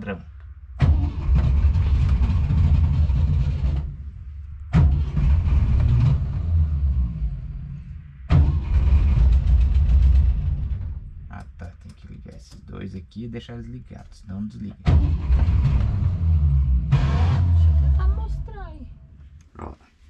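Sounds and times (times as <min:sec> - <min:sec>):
car engine cranking: 0:00.8 - 0:12.9, 0:13.9 - 0:18.9.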